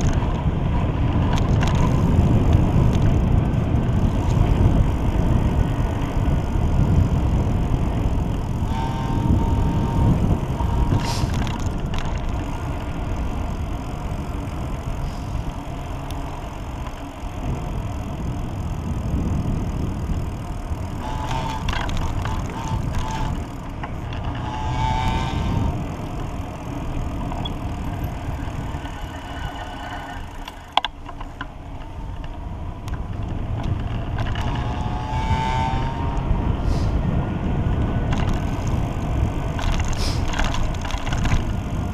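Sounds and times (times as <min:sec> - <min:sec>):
bicycle tyre noise: 0:00.0 - 0:41.9
wind rumbling on microphone: 0:00.0 - 0:41.9.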